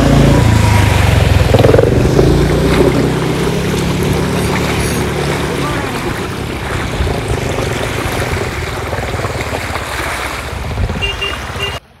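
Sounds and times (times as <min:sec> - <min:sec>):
floodwater rushing and splashing: 0:00.0 - 0:12.0.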